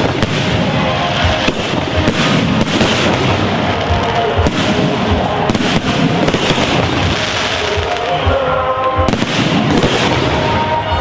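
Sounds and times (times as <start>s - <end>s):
fireworks banging and crackling: 0.0s - 11.0s
music playing: 0.0s - 11.0s.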